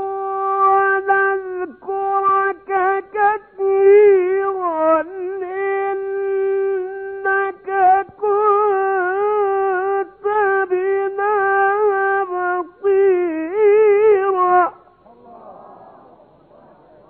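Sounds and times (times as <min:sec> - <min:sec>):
man chanting melodically: 0:00.0 - 0:17.0.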